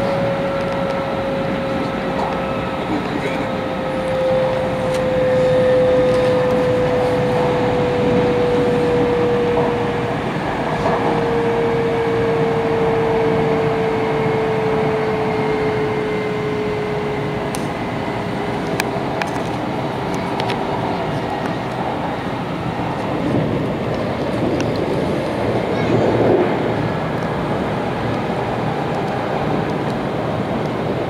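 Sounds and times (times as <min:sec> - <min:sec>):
train cabin running rush: 0:00.0 - 0:31.0.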